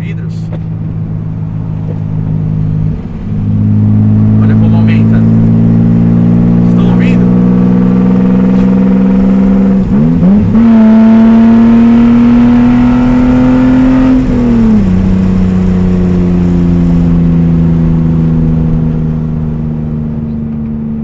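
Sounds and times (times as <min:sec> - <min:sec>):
car engine droning under throttle: 0:00.0 - 0:21.0.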